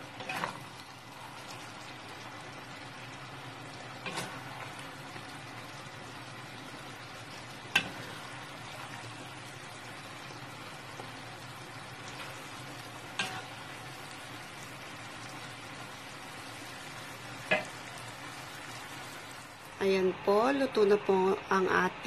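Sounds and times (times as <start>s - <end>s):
curry sauce bubbling: 0.0s - 19.7s.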